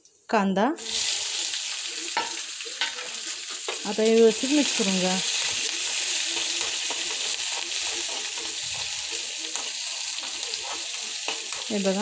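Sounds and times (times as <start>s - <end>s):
food sizzling in hot oil: 0.8s - 12.0s
metal spoon scraping a pan: 2.1s - 12.0s.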